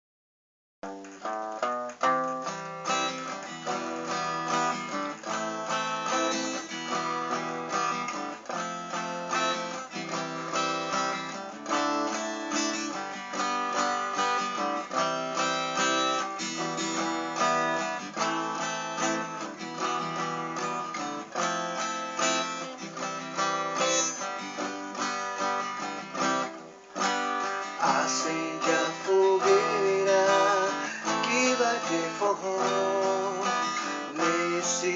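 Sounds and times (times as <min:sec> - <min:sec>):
acoustic guitar strumming and picking: 0:00.8 - 0:34.9.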